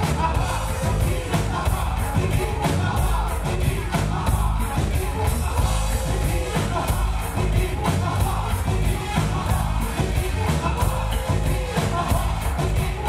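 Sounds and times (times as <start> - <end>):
drum kit beat: 0.0 - 13.0
heavy bass: 0.0 - 13.0.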